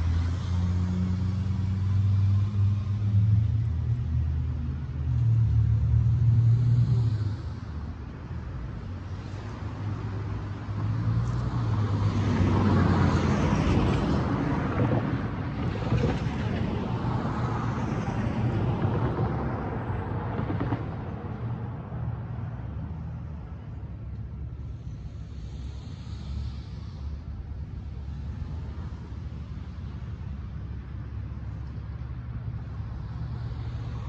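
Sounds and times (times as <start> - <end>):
cars passing by: 0.0 - 34.0
low engine hum: 0.0 - 34.0.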